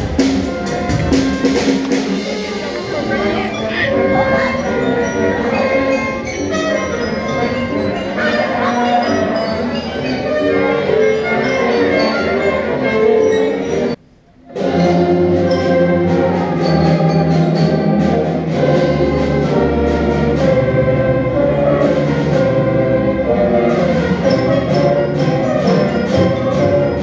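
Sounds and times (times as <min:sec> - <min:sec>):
orchestral music with percussive beat: 0:00.0 - 0:27.0.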